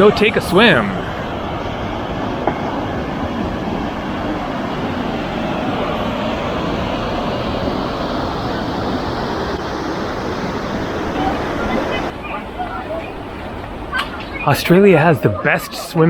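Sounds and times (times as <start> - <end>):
river running over rocks: 0.0 - 15.5.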